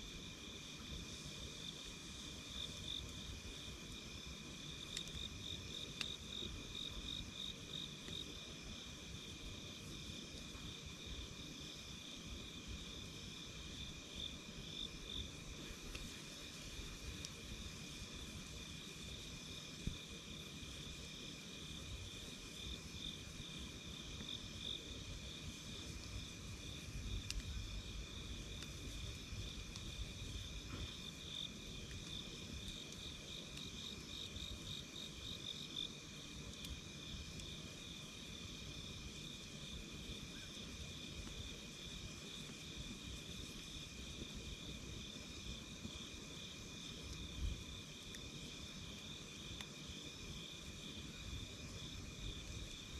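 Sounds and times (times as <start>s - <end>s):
campfire popping: 0.1s - 52.9s
insects trilling: 0.6s - 52.9s.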